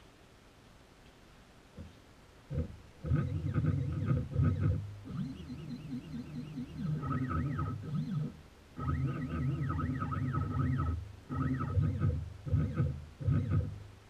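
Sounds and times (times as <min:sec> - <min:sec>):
spindle hum: 0:01.8 - 0:14.0
stepper motors whining: 0:02.5 - 0:13.8.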